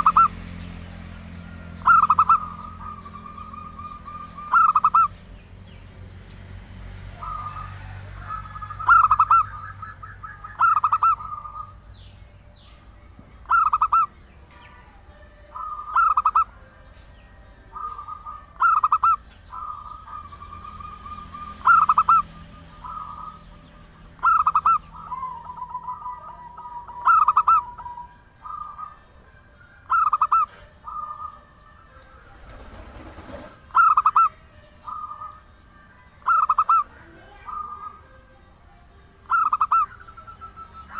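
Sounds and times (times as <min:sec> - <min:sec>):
dove cooing: 0:00.0 - 0:00.5, 0:01.5 - 0:05.2, 0:07.2 - 0:11.7, 0:13.4 - 0:14.1, 0:14.7 - 0:16.9, 0:17.6 - 0:29.1, 0:29.8 - 0:38.4, 0:39.2 - 0:40.9.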